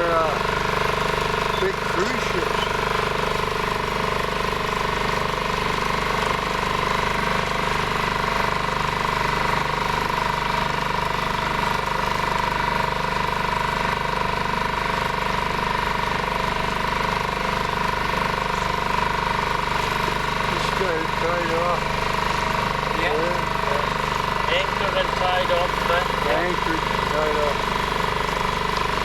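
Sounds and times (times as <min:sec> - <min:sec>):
boat motor drone: 0:00.0 - 0:29.0.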